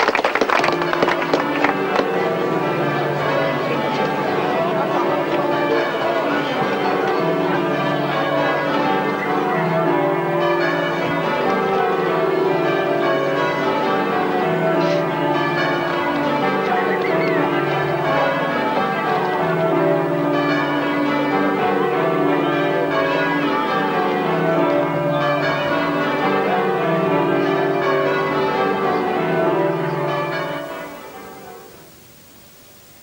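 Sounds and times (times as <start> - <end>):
church bells pealing: 0.0 - 32.4.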